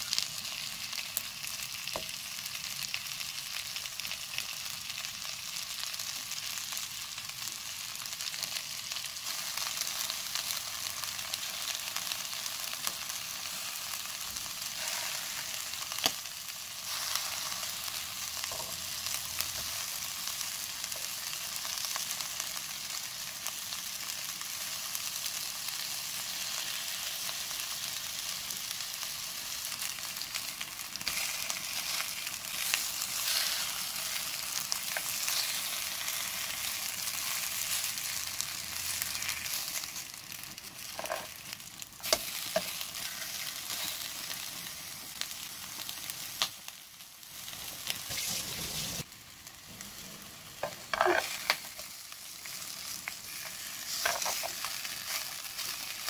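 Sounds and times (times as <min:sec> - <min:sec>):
squid sizzling in hot oil: 0:00.0 - 0:56.0.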